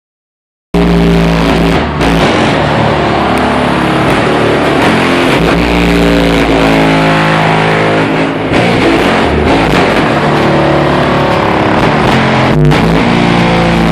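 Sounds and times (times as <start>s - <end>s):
bass-heavy music from car speakers: 0.8s - 13.9s.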